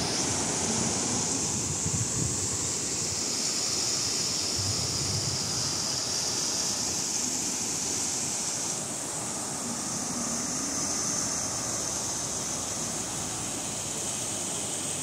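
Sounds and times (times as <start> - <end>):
river rushing in flood: 0.0 - 15.0.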